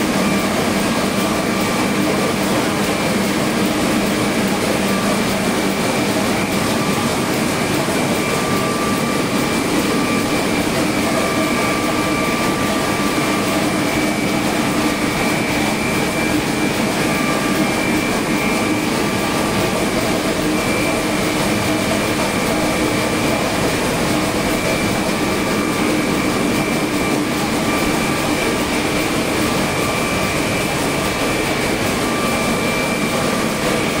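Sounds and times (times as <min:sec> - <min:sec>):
high machine whine: 0:00.0 - 0:34.0
printing press running: 0:00.0 - 0:34.0.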